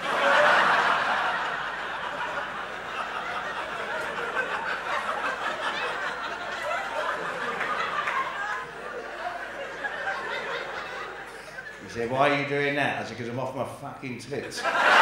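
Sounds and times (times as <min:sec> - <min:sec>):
audience laughing: 0:00.0 - 0:12.5, 0:14.3 - 0:15.0.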